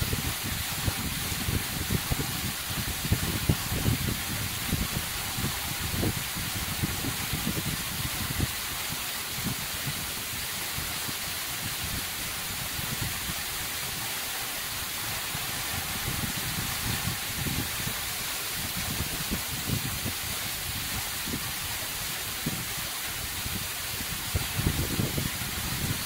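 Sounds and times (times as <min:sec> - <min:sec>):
waterfall splashing into pool: 0:00.0 - 0:26.0.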